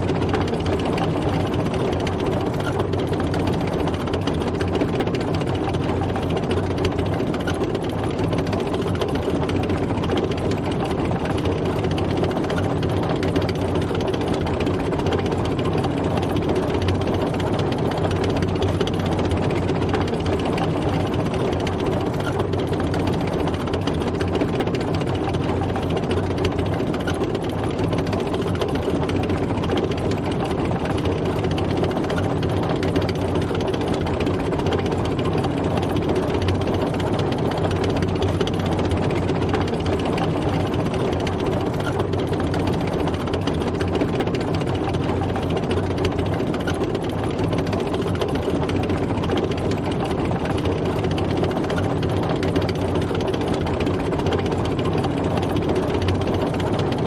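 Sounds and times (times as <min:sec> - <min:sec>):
tank engine running: 0:00.0 - 0:57.0.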